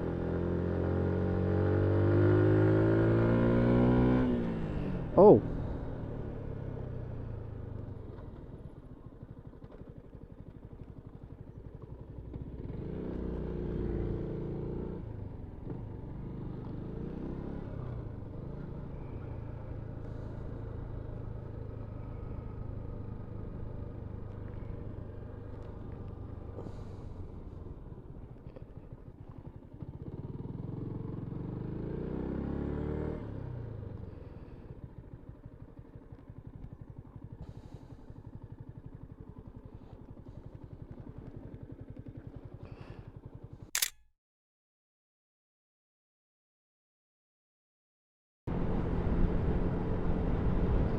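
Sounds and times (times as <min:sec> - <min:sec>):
motorcycle engine accelerating: 0:00.0 - 0:43.9, 0:48.5 - 0:50.9.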